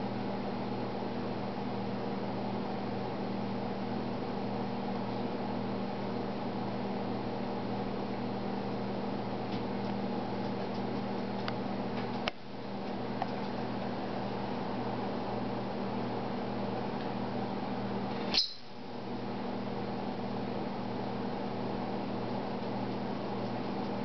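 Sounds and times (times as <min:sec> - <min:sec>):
steady low hum with hiss: 0:00.0 - 0:24.0.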